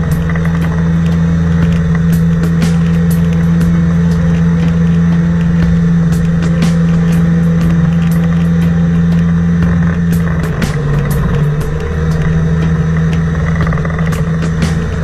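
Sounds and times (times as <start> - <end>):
motor engine running steadily: 0.0 - 15.0.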